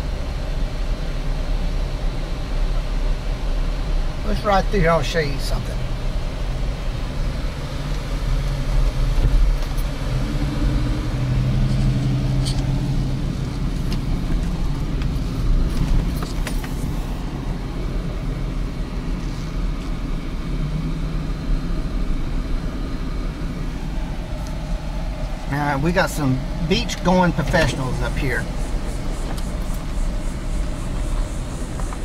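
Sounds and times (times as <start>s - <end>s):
car engine and tyre hum: 0.0s - 32.0s.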